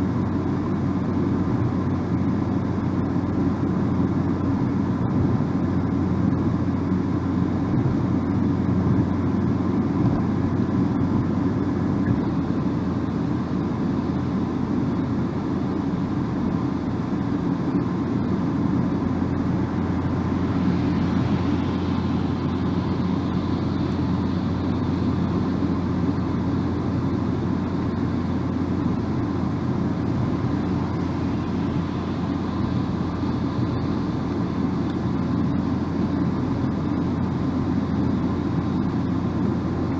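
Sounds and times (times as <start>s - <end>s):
low engine hum: 0.0s - 39.9s
tyre and road noise: 0.0s - 39.9s.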